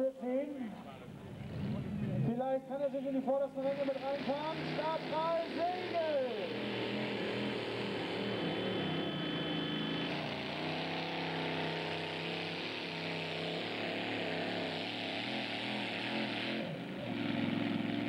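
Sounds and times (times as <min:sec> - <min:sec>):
tractor engine running hard: 0:03.3 - 0:18.0.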